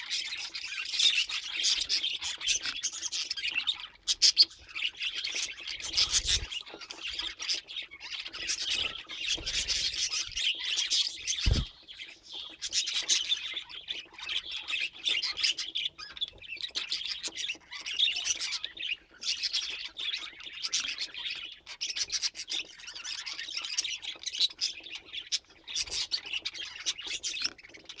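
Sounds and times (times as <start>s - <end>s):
budgerigars chattering: 0.1s - 27.9s.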